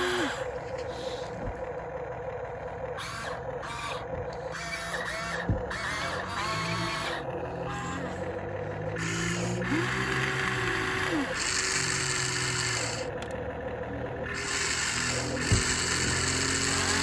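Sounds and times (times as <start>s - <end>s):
small electric motors whirring: 0.0s - 1.6s, 2.9s - 13.4s, 14.2s - 17.0s.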